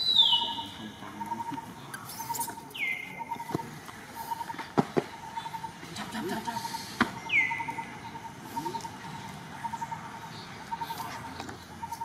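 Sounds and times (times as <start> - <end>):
faint pulsing chirp: 0.0 - 12.0.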